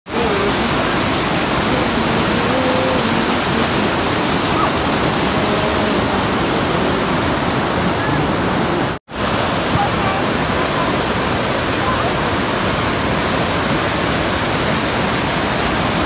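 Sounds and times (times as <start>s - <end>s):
river rushing over boulders: 0.1s - 16.0s.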